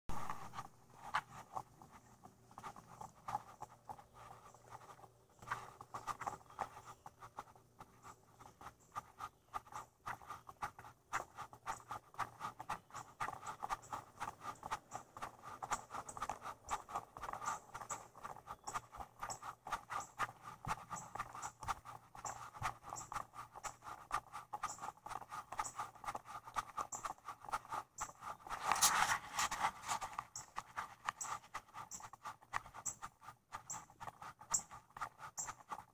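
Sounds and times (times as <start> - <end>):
muffled footsteps: 0.1 - 35.9.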